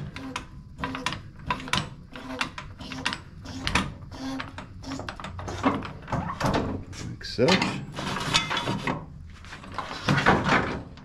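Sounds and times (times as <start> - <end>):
floor jack squeaks and metal clicks: 0.0 - 11.0.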